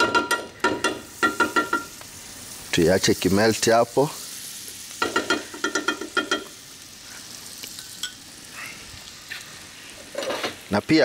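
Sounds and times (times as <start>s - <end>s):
butter sizzling in a frying pan: 0.0s - 11.0s.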